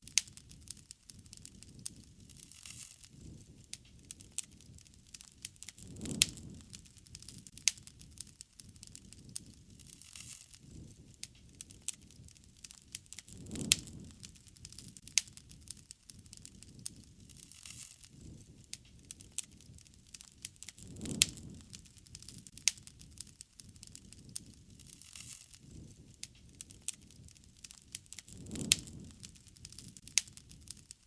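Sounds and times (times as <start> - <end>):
low rumble of flame: 0.0 - 31.0
sharp pops of fire: 0.0 - 31.0
wood fire crackling: 0.0 - 31.0.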